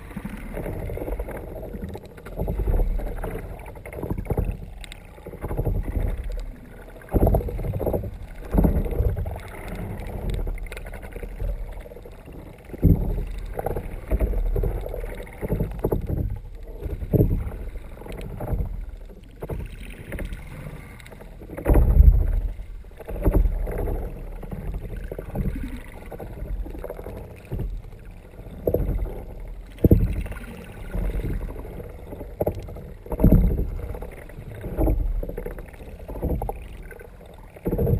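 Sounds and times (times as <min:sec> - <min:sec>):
muffled water sloshing against kayak: 0:00.0 - 0:37.9.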